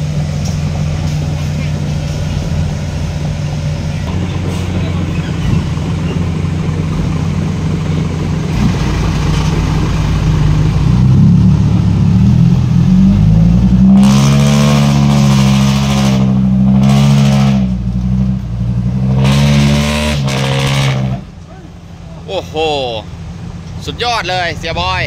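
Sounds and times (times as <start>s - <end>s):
diesel truck engine under load: 0.0s - 25.0s
loud exhaust: 0.0s - 25.0s.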